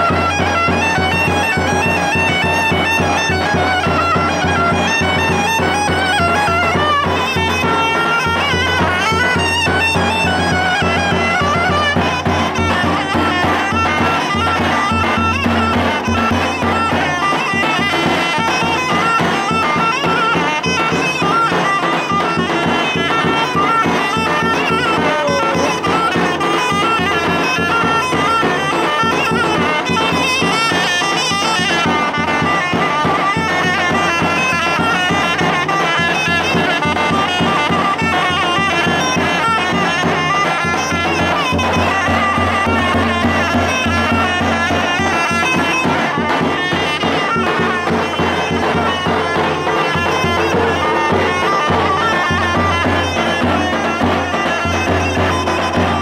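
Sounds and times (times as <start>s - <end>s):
folk tune on reed wind instrument: 0.0s - 56.0s.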